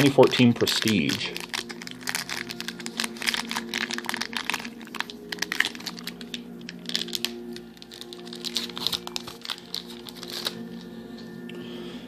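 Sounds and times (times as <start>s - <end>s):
cards being handled: 0.0s - 10.9s
foil wrapper crinkling and tearing: 0.0s - 10.9s.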